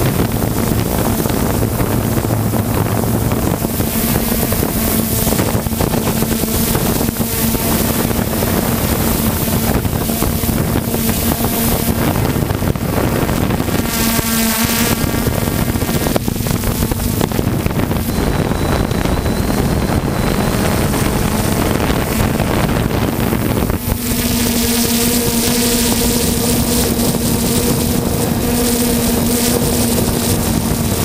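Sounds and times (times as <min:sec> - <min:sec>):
drone propellers buzzing: 0:00.0 - 0:31.0
wind rushing over microphone: 0:00.0 - 0:31.0.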